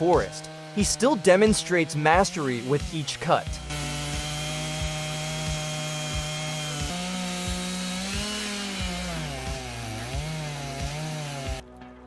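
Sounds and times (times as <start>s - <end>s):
chainsaw cutting wood: 0.0s - 11.6s.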